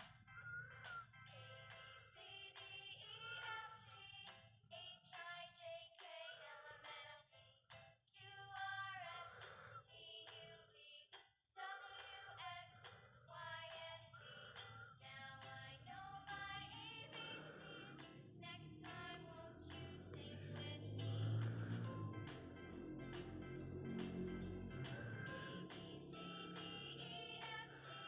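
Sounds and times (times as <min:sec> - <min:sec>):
faint background song: 0:00.0 - 0:28.0.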